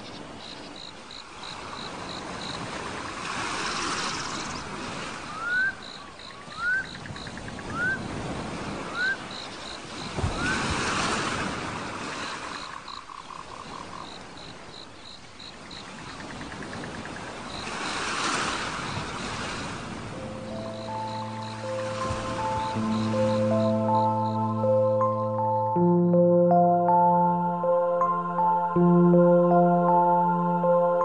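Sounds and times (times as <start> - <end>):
sea waves washing in: 1.2 - 5.9, 6.6 - 12.9, 15.8 - 31.0.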